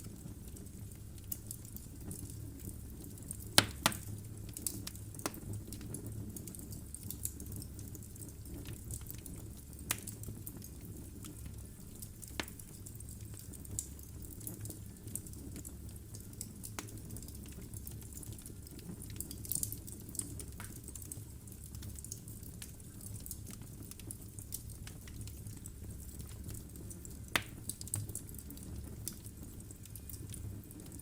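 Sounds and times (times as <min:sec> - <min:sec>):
fire flames rumbling: 0:00.0 - 0:31.0
logs crackling and popping: 0:00.0 - 0:31.0.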